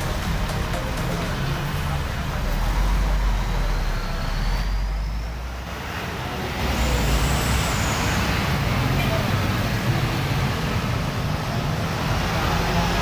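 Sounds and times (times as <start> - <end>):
bus diesel engine rumbling: 0.0 - 13.0
motorcycles passing: 0.0 - 13.0
truck passing: 0.0 - 13.0.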